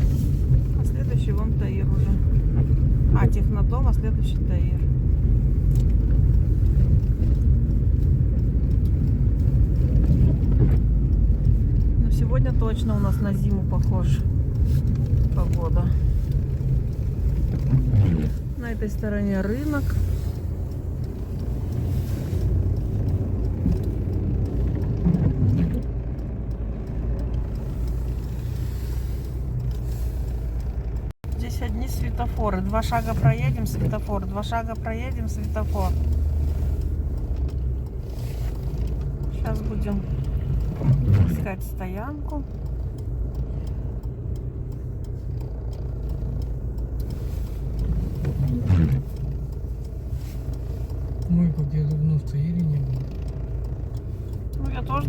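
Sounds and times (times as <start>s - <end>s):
car engine rumble: 0.0s - 55.0s
tyre road noise: 0.0s - 55.0s.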